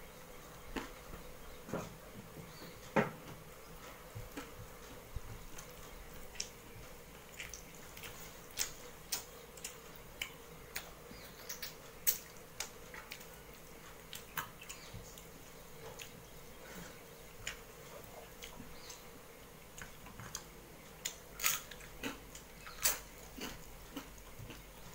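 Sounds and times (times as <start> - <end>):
chewing: 3.8 - 19.0, 19.6 - 24.9.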